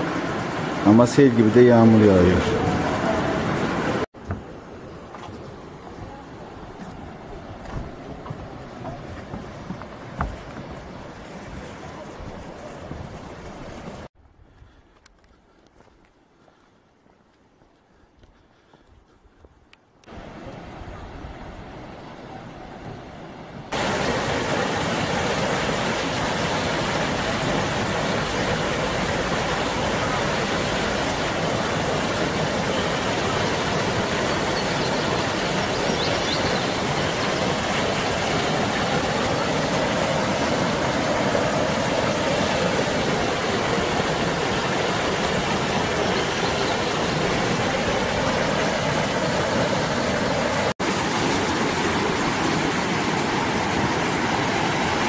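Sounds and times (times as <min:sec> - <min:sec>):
waterfall roaring: 0:00.0 - 0:14.1, 0:20.1 - 0:55.0.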